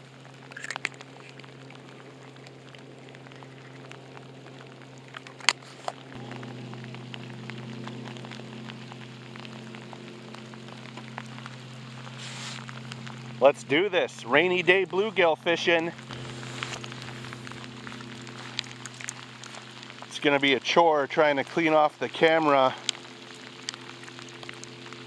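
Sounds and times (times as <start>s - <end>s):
low steady hum: 0.0s - 25.0s
steady rain falling: 0.0s - 25.0s.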